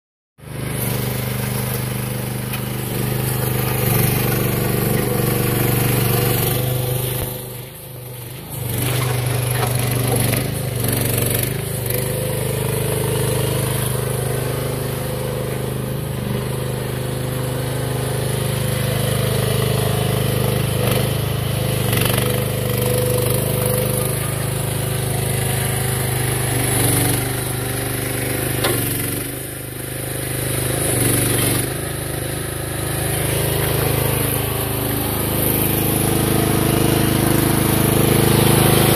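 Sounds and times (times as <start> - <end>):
excavator engine running: 0.4 - 38.9.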